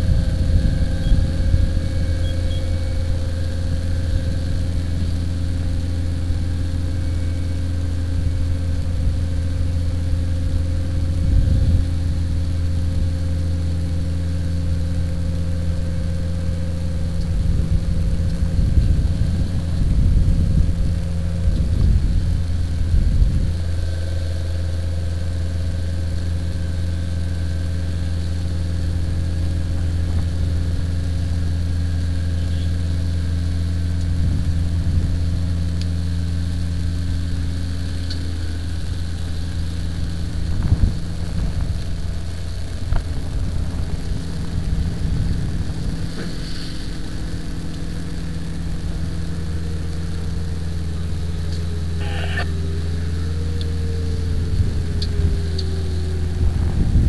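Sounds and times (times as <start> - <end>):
fire truck engine running: 0.0 - 57.0.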